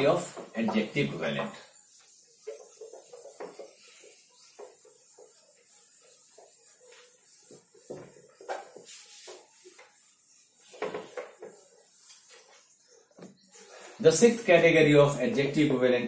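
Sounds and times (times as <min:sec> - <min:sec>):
cloth rubbing on whiteboard: 0:00.0 - 0:14.5.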